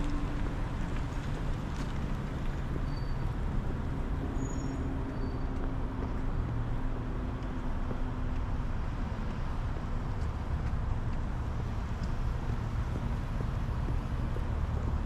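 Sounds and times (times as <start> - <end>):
cars engine rumble: 0.0 - 15.0.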